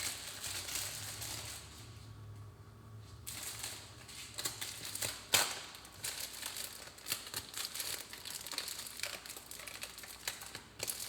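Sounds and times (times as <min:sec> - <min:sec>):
crinkling and crackling: 0:00.0 - 0:01.9, 0:03.2 - 0:11.0.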